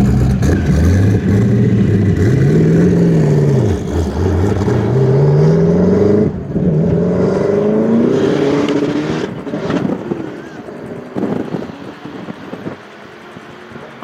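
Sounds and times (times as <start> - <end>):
car engine revving and accelerating: 0.0 - 14.0.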